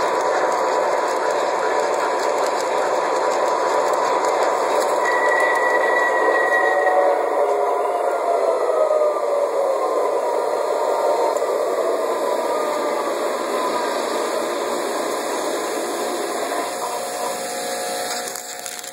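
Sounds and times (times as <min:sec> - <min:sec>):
model train whirring on rails: 0:00.0 - 0:18.9.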